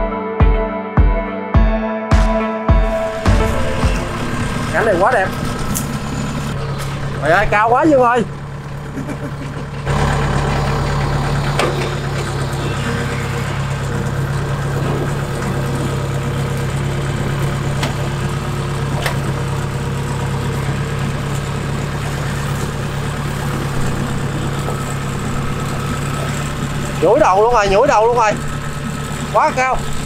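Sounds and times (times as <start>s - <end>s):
farm machine engine humming: 2.9s - 30.0s.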